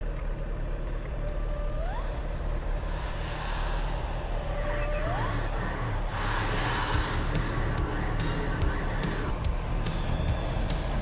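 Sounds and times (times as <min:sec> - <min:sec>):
vehicle engine: 0:00.0 - 0:11.0.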